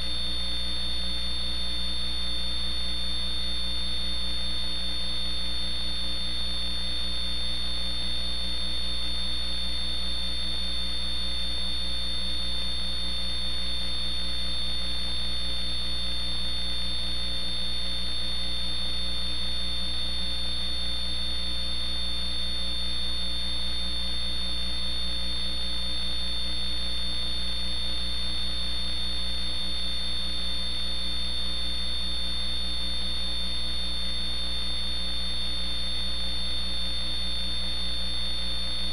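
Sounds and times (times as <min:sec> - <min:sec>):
electrical hum with high whine: 0:00.0 - 0:38.9.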